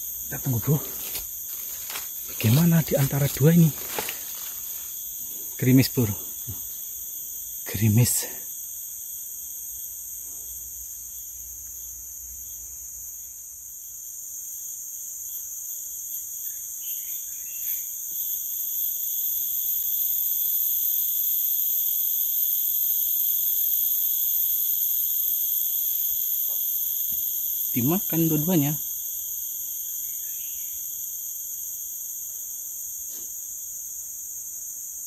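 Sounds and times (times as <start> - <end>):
forest insects buzzing: 0.0 - 35.0.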